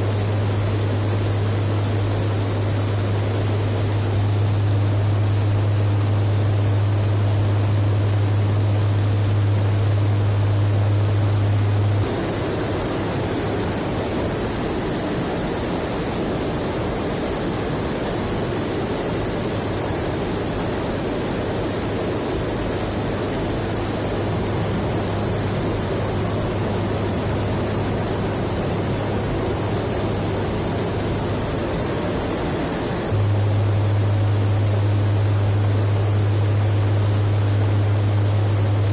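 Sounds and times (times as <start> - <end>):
turboprop engines running: 0.0 - 38.9.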